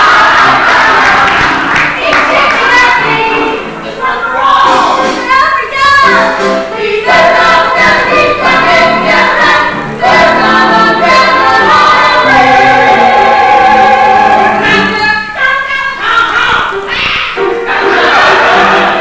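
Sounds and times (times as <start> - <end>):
group of voices singing: 0.0 - 19.0
musical accompaniment: 0.0 - 19.0.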